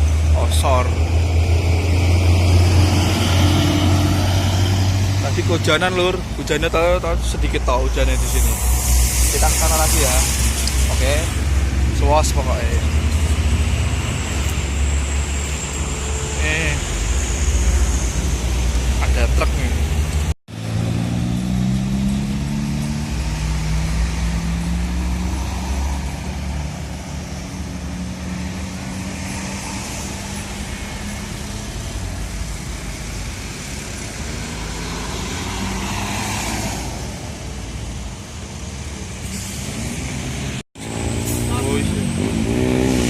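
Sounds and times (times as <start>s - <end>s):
vehicle passing: 0.0s - 15.4s, 16.3s - 37.3s, 39.8s - 43.0s
large vehicle engine: 0.0s - 43.0s
steady traffic noise: 0.0s - 43.0s.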